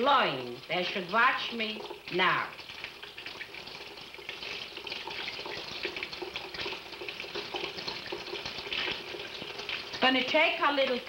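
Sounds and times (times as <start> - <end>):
small water splashes: 0.0 - 11.0
tap water running into sink: 0.0 - 11.0.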